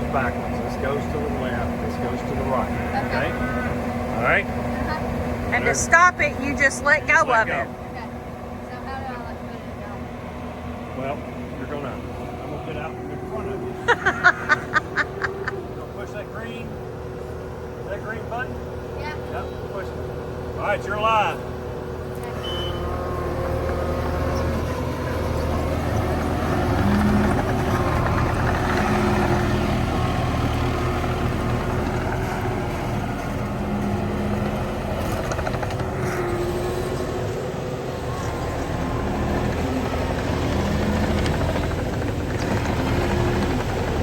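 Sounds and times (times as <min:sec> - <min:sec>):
farm machine engine running: 0:00.0 - 0:44.0.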